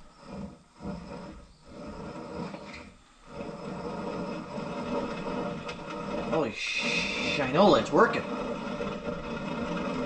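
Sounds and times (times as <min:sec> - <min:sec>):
hand drill grinding steel: 0:00.0 - 0:10.0.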